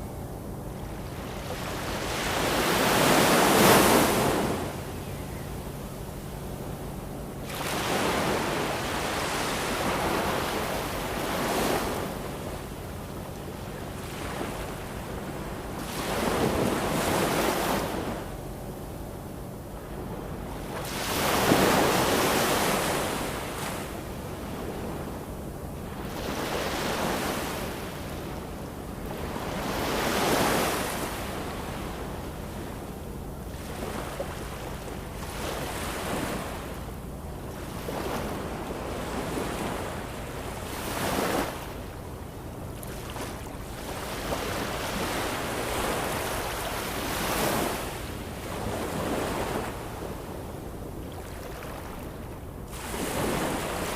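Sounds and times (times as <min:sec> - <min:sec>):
ocean waves breaking on shore: 0:00.0 - 0:05.0, 0:05.8 - 0:18.4, 0:19.6 - 0:53.9.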